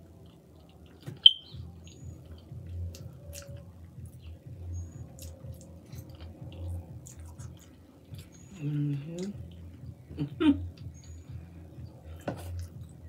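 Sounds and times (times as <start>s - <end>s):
muffled chewing: 0.0s - 13.0s.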